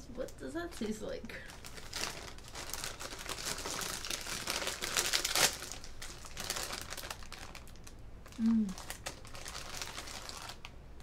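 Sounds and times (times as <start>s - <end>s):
snack bag crinkling: 0.7s - 10.8s.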